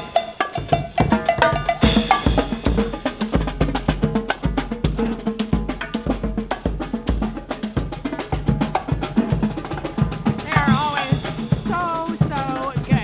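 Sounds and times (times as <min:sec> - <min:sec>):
snare drums: 0:00.0 - 0:13.0
bass drum: 0:00.6 - 0:13.0.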